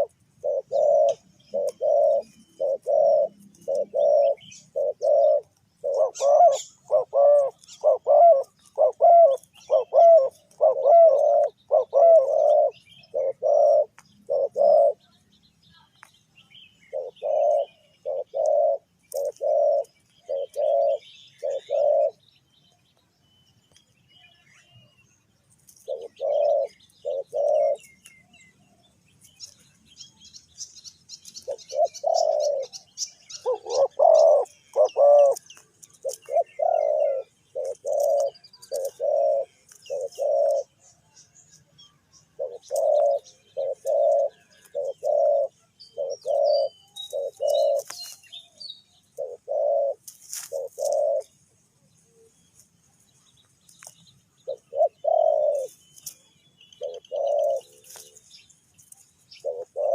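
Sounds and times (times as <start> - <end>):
dove cooing: 0.0 - 15.1, 16.8 - 22.3, 25.7 - 29.7, 31.0 - 51.4, 54.4 - 58.5, 59.2 - 59.9
small birds chirping faintly: 0.0 - 59.9.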